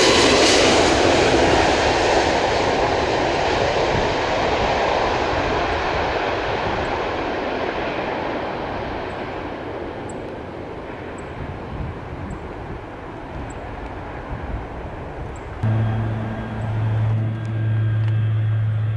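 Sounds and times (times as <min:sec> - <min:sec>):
airliner jet engine: 0:00.0 - 0:18.9.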